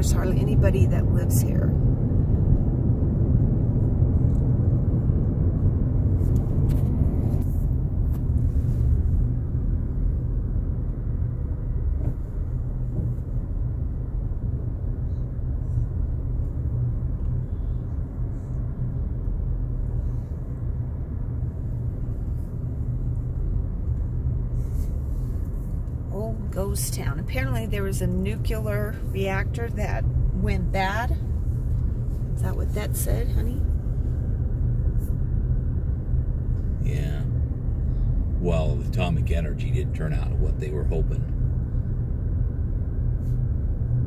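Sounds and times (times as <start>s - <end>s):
car interior rumble: 0.0s - 44.0s.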